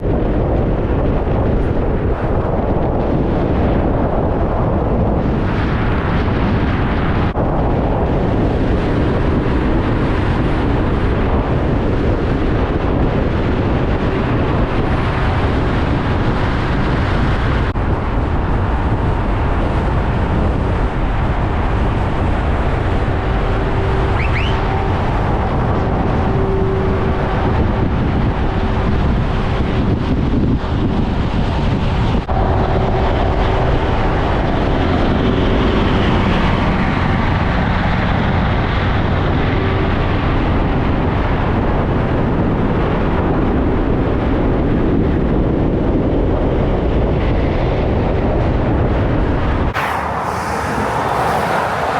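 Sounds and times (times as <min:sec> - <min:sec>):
faint vehicle hum: 0:00.0 - 0:43.1, 0:49.6 - 0:51.9
motorway traffic roar: 0:00.0 - 0:51.9
wind buffeting microphone: 0:00.0 - 0:51.9.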